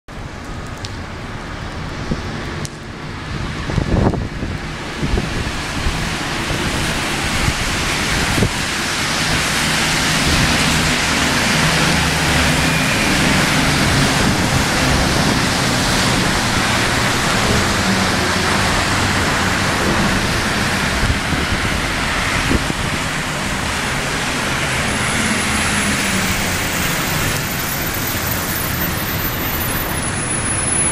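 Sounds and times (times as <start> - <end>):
vehicles passing on wet road: 0.1 - 30.9.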